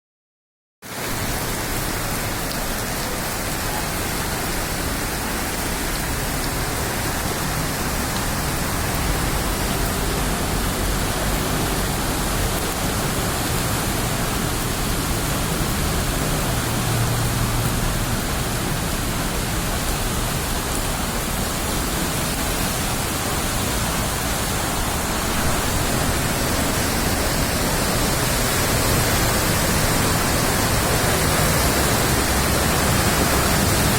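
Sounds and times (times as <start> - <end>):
heavy downpour: 0.8 - 33.9
rushing runoff water: 0.8 - 33.9.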